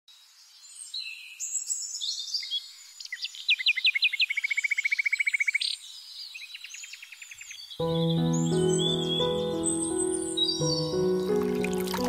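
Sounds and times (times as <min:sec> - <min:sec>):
birds singing: 0:00.4 - 0:12.0.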